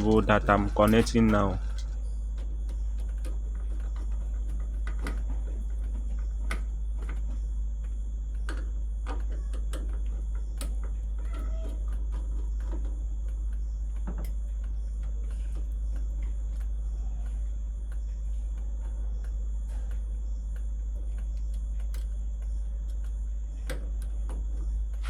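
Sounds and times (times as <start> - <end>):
small clicks and taps of wiring: 0.0 - 25.0.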